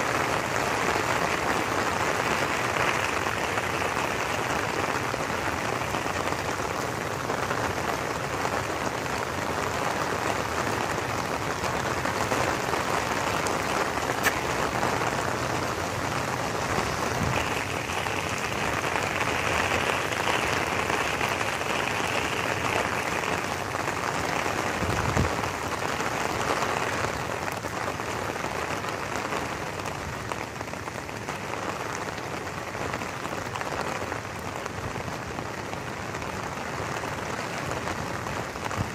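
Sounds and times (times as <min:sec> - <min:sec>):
rain on stone paving: 0:00.0 - 0:38.9.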